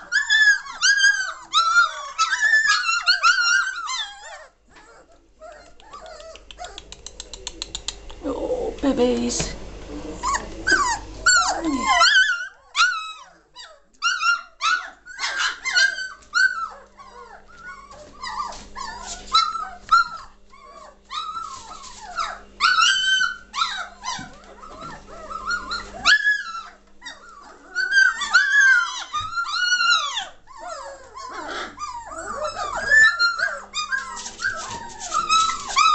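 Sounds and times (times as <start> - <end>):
puppies whining and yelping: 0.0 - 6.9, 10.2 - 35.9.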